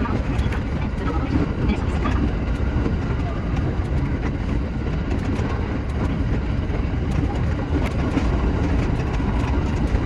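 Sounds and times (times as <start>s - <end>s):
electric train rumble: 0.0s - 10.0s
rail clicks: 0.0s - 10.0s.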